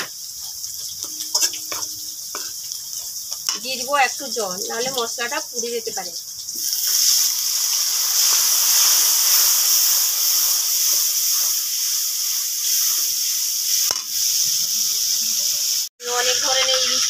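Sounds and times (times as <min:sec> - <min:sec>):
water sizzling in hot oil: 0:00.0 - 0:17.0.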